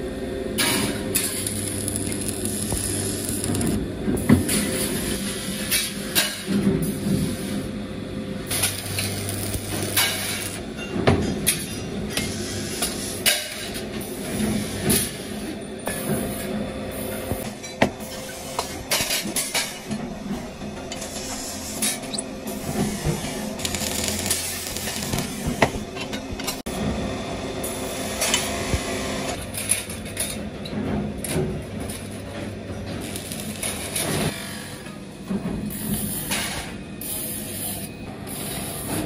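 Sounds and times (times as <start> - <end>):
welding hum and hiss: 0.0 - 30.3, 31.2 - 39.0.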